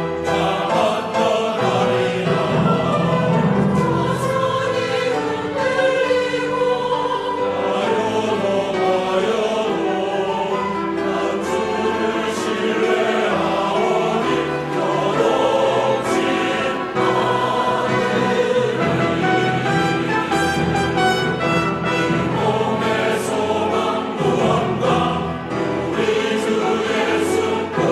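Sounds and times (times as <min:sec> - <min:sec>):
choir singing: 0:00.0 - 0:27.9.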